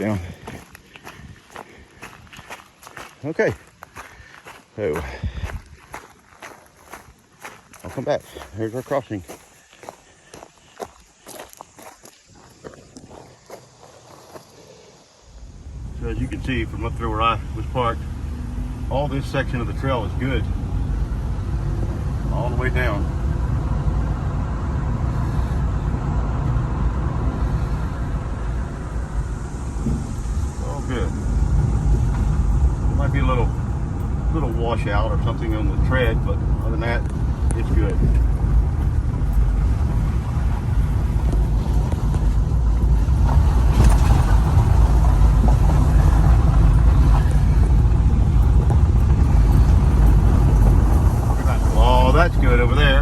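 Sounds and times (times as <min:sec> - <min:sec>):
vehicle driving rumble: 0:00.0 - 0:11.8, 0:15.0 - 0:53.0.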